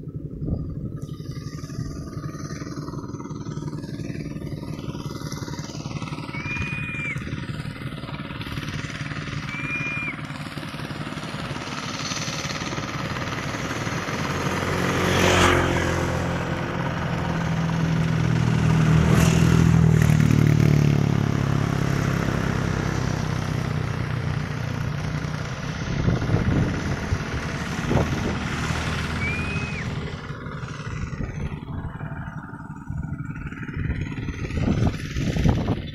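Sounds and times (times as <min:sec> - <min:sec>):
vehicle engine passing by: 0:00.0 - 0:35.9.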